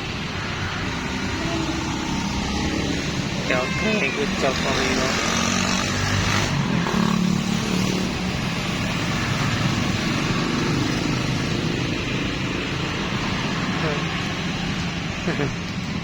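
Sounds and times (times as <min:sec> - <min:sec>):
road traffic noise: 0:00.0 - 0:16.0
vehicle engine passing: 0:00.6 - 0:14.8.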